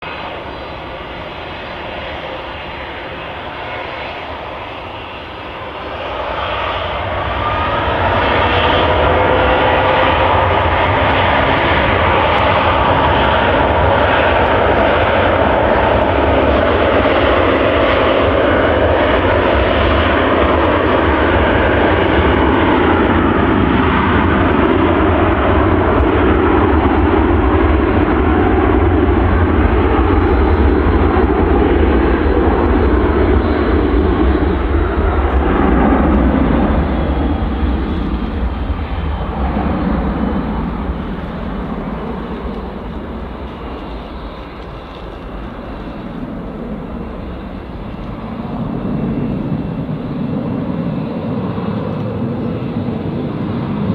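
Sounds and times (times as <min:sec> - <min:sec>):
jet engines whining and rumbling: 0:00.0 - 0:53.9.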